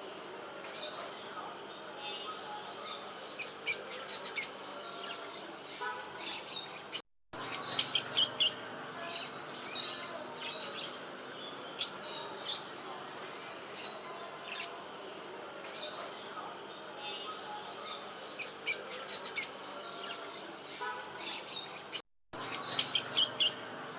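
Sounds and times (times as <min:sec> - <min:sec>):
small cage birds chirping: 0:00.0 - 0:23.9.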